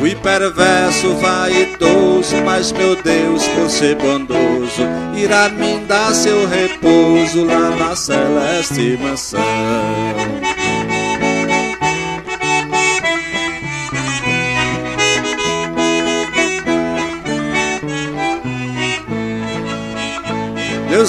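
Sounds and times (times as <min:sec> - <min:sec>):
accordion playing: 0:00.0 - 0:21.0.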